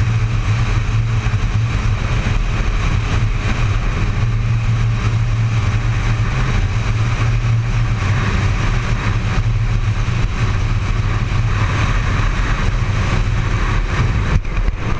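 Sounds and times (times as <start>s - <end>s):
motorcycle engine cruising: 0.0s - 14.9s
wind rushing over microphone: 0.0s - 14.9s.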